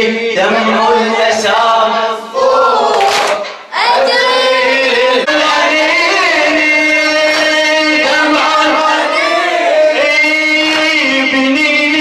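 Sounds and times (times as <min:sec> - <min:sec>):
person chanting a cappella: 0:00.0 - 0:12.0.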